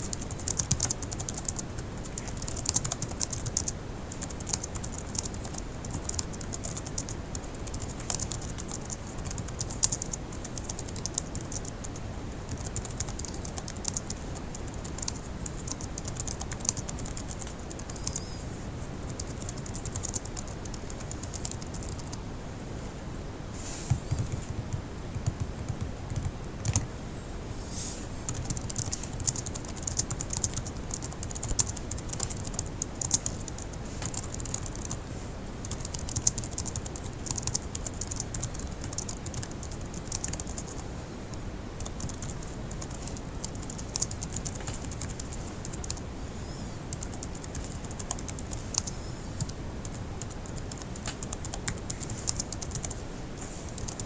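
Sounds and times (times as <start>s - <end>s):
fast laptop keyboard typing: 0.0s - 18.4s, 19.1s - 22.2s, 23.9s - 26.9s, 28.3s - 35.0s, 35.6s - 53.0s, 53.6s - 54.0s.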